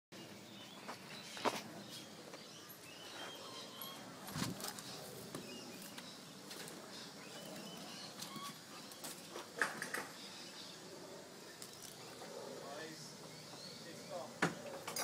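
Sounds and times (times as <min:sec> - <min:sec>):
birds chirping: 0:00.2 - 0:15.0.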